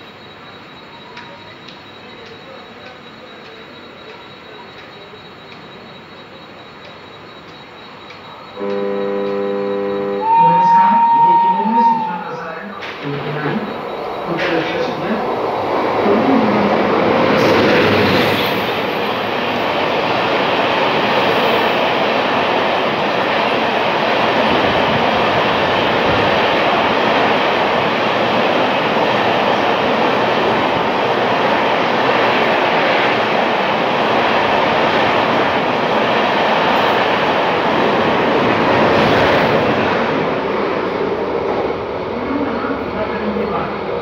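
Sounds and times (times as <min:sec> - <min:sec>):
train passing at speed: 0:00.0 - 0:44.0.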